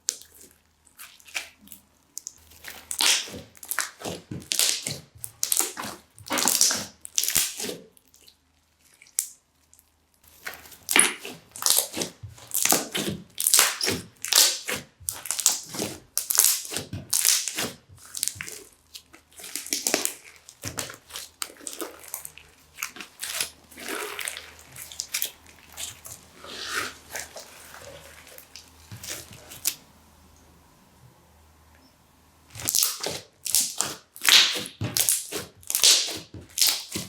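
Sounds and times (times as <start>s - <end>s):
slime crackling and popping: 0.0s - 29.8s, 32.5s - 37.0s.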